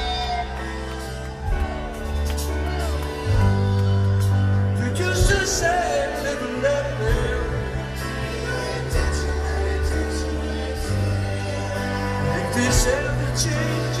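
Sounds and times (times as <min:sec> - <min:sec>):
live rock band: 0:00.0 - 0:14.0
sustained bass notes: 0:00.0 - 0:14.0.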